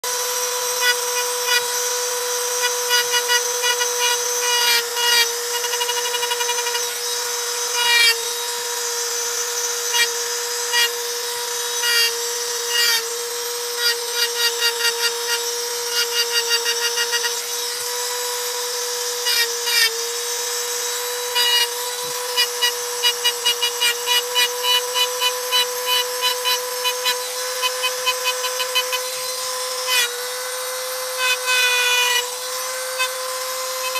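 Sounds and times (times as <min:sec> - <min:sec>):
rotary tool engraving stone: 0:00.0 - 0:33.9.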